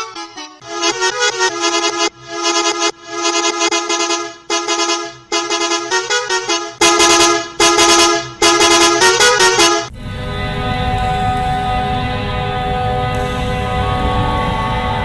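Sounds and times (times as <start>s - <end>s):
bus horn playing a tune: 0.0s - 15.0s.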